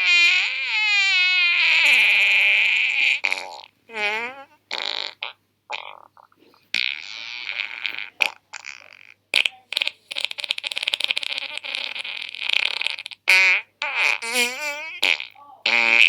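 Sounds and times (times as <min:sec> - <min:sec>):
fart sounds: 0:00.0 - 0:16.0.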